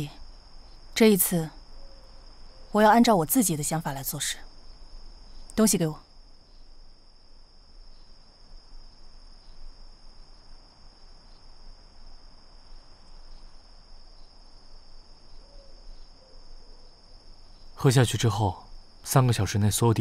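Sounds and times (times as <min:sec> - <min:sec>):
crickets trilling: 0:00.0 - 0:20.0
faint background hiss: 0:00.0 - 0:20.0.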